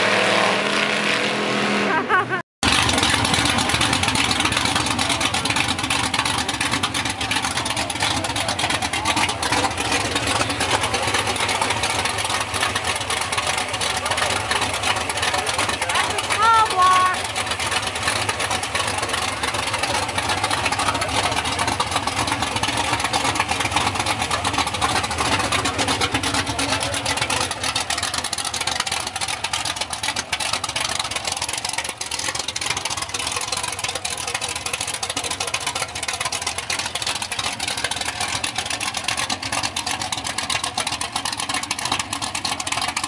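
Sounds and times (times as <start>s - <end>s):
pickup engine idling: 1.9s - 43.0s.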